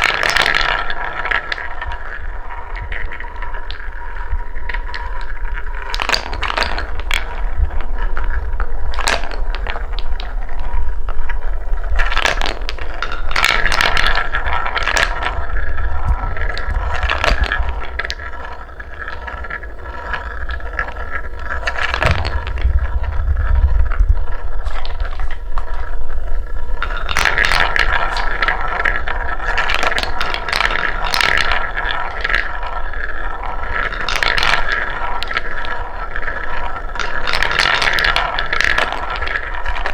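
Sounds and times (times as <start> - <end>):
balls clicking and clacking: 0.0 - 39.9
wooden balls rolling on track: 0.0 - 39.9.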